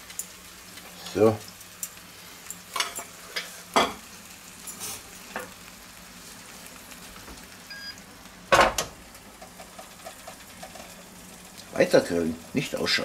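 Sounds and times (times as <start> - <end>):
chicken sizzling on a grill: 0.0 - 13.0.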